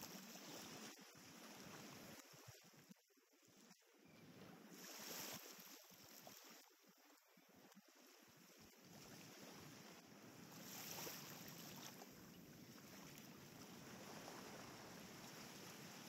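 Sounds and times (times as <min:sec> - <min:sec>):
faint wind: 0:00.0 - 0:16.0
gentle surf: 0:00.0 - 0:16.0.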